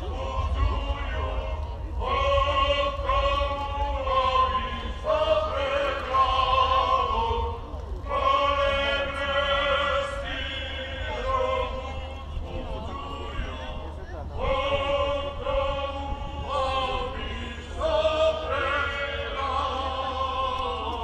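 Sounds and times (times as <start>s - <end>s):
voices singing slowly: 0.0s - 21.0s
wind rumble on microphone: 0.0s - 21.0s.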